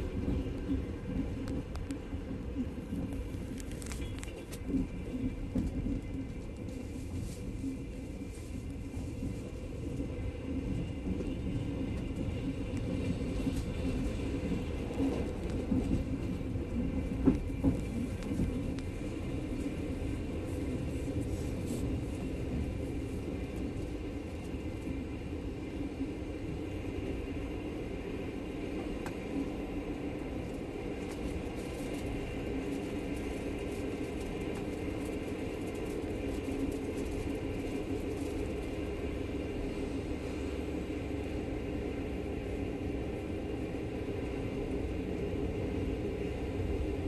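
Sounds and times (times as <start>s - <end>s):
train rumbling inside carriage: 0.0s - 47.0s.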